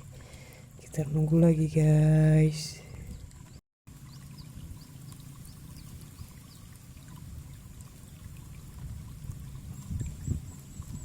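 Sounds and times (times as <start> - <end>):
water flowing and trickling: 0.0 - 11.0.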